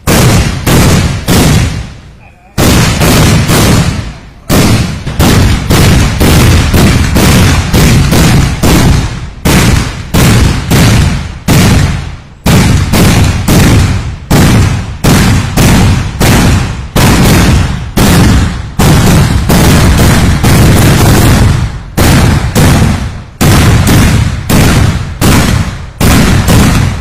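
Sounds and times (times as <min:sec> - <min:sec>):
firecrackers banging with echo: 0:00.0 - 0:27.0.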